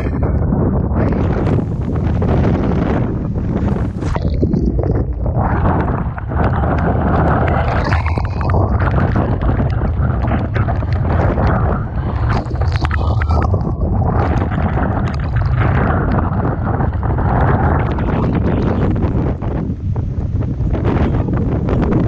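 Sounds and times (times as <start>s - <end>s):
rough sea and crashing waves: 0.0s - 22.0s
strong wind buffeting microphone: 0.0s - 22.0s
crackling spatters: 1.0s - 19.1s.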